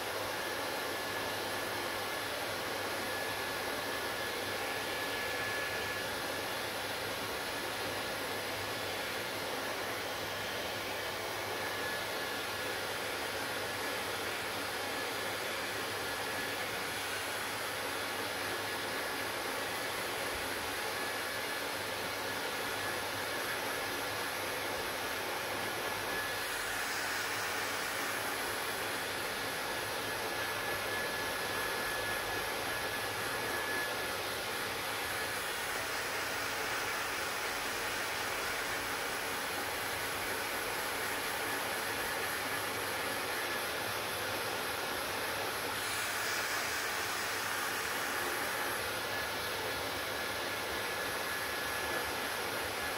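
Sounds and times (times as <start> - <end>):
hair dryer blowing: 0.0 - 52.9.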